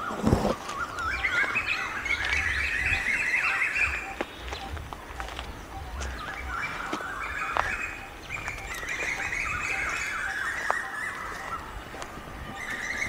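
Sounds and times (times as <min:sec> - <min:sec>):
birds chattering: 0:00.0 - 0:13.0
footsteps on dry leaves: 0:00.1 - 0:13.0.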